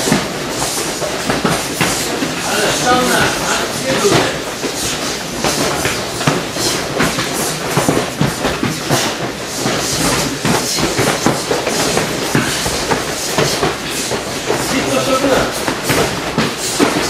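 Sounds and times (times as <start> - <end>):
punches and kicks landing on bodies: 0.0 - 17.0.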